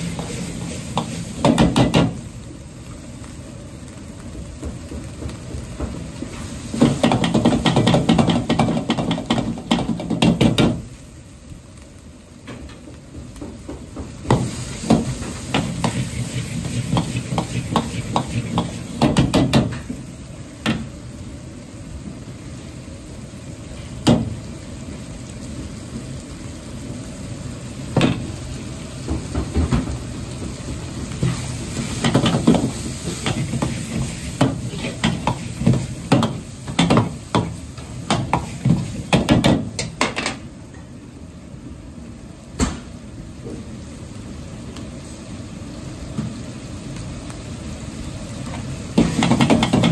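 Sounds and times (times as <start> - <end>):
meat sizzling in a wok: 0.0 - 49.9.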